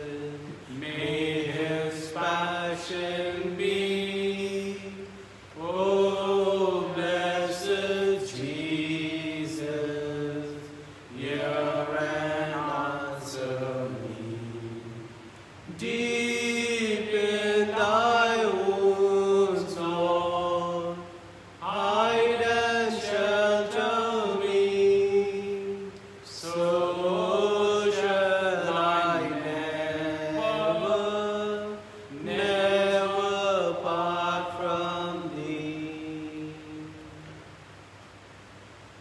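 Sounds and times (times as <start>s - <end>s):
person singing a hymn: 0.0s - 37.5s.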